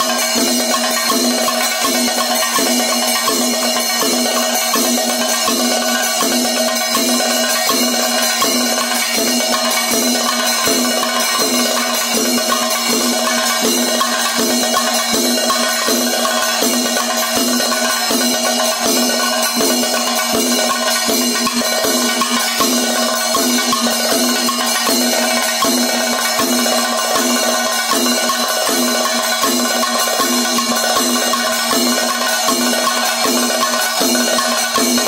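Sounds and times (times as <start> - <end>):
drums struck with sticks: 0.0 - 35.0
hand cymbals ringing: 0.0 - 35.0.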